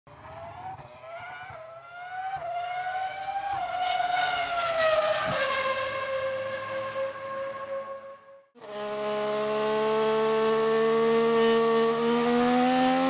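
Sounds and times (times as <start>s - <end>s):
racing car engine accelerating: 0.1s - 7.4s, 8.6s - 13.0s.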